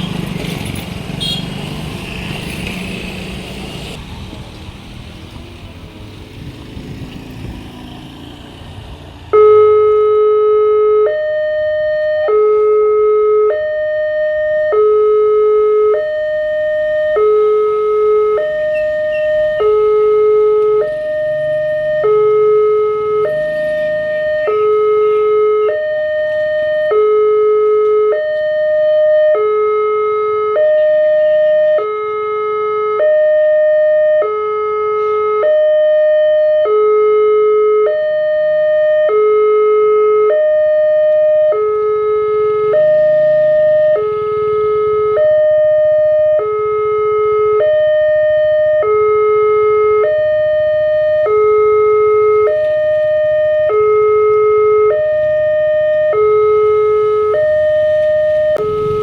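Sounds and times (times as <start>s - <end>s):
level-crossing two-tone alarm: 9.4s - 59.0s.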